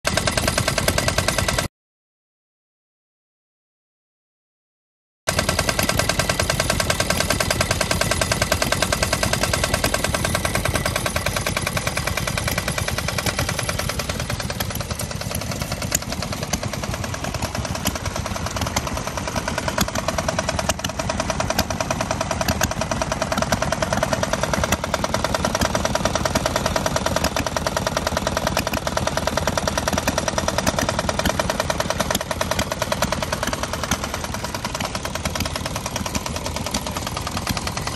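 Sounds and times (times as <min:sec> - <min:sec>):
diesel engine knocking: 0:00.1 - 0:01.7, 0:05.3 - 0:37.9.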